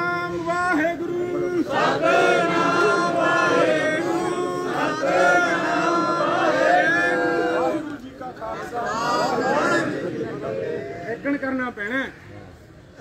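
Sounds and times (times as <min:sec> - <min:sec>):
crowd chanting: 0:00.0 - 0:11.1.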